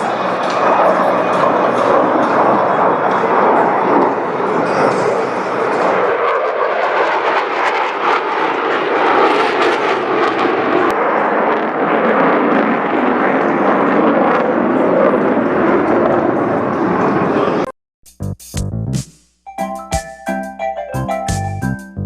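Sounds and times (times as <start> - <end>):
jet flying overhead: 0.0 - 17.7.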